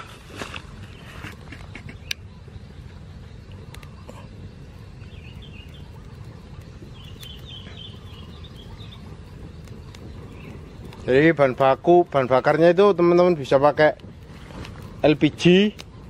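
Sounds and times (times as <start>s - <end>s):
fire crackling: 0.0s - 16.0s
straw fire rumbling: 0.0s - 16.0s
birds chirping: 0.6s - 16.0s.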